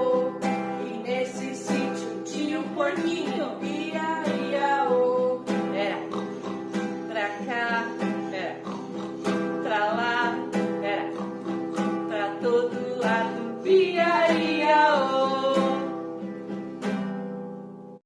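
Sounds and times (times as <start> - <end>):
children's song singing: 0.0 - 16.3
strummed acoustic guitar: 0.0 - 18.0.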